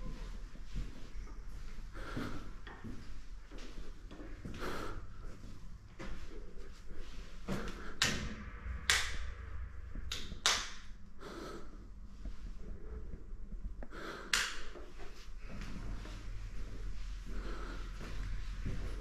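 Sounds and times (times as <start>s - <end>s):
low rumble: 0.0s - 14.0s, 14.7s - 19.0s.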